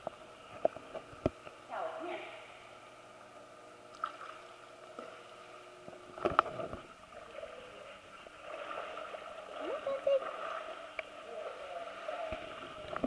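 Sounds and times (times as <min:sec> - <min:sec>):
pool water lapping: 0:00.0 - 0:13.0.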